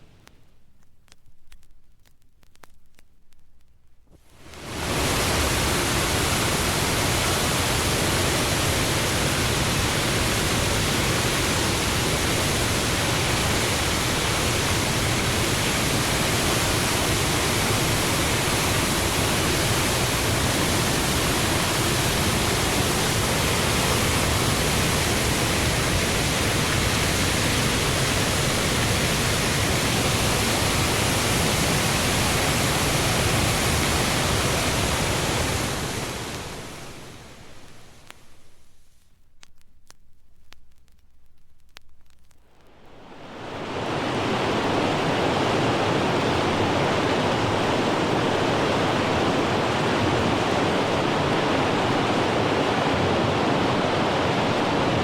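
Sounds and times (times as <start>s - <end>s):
steady rushing noise: 4.2s - 55.0s.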